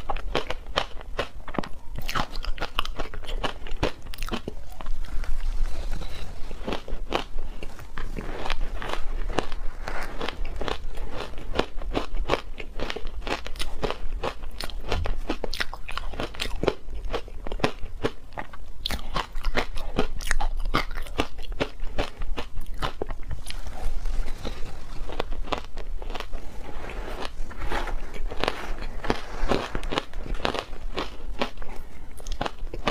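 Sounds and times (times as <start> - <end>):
ice crunching as chewed: 0.0 - 32.9.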